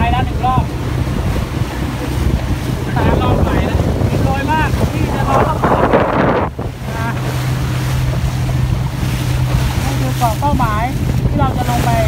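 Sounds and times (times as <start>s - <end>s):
boat engine humming: 0.0s - 12.0s
rushing water surge: 0.0s - 12.0s
water rushing along hull: 0.0s - 12.0s
wind buffeting microphone: 0.0s - 12.0s.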